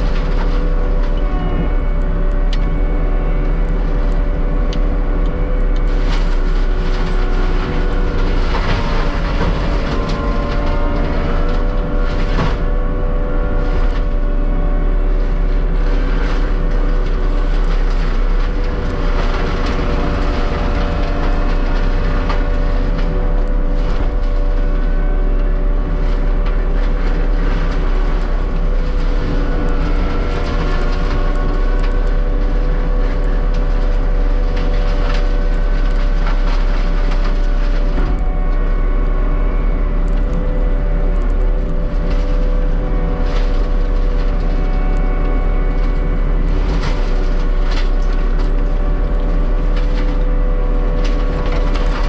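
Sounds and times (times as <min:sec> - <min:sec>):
heavy diesel machinery drone: 0:00.0 - 0:52.0.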